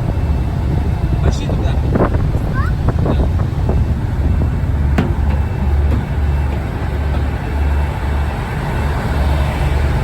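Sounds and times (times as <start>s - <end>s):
boat diesel engine droning: 0.0s - 10.0s.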